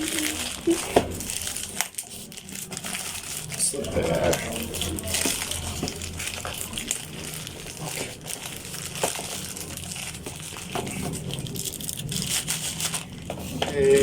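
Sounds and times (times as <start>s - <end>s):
packaging crinkling and rustling: 0.0s - 14.0s
steady low hum: 0.0s - 14.0s.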